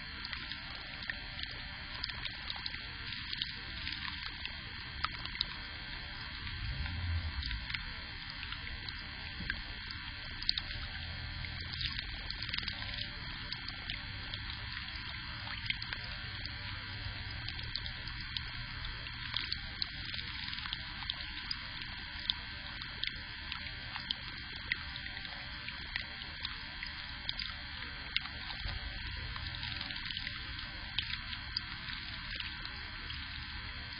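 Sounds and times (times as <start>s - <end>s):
faint scattered ticks: 0.0s - 33.9s
low electrical hum: 0.0s - 33.9s.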